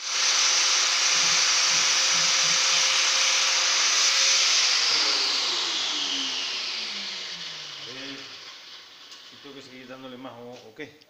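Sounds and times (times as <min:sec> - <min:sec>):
power tool motor running: 0:00.0 - 0:10.2.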